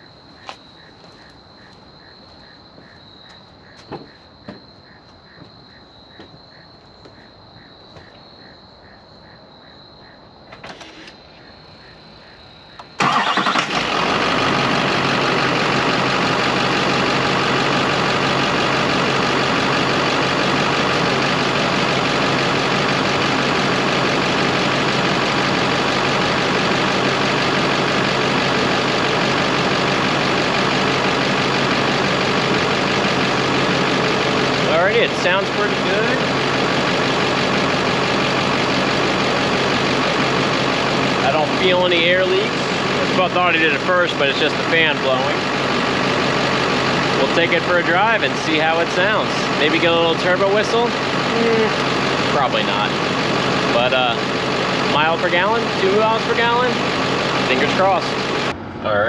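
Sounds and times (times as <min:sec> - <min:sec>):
diesel engine starting and idling: 0:10.4 - 0:59.0.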